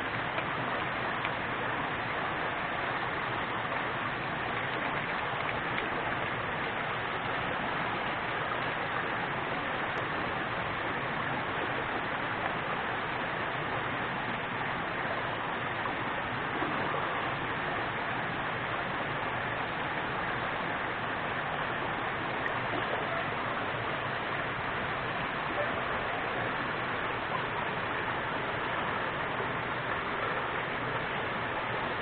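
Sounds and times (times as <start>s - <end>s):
river water rushing: 0.0s - 32.0s.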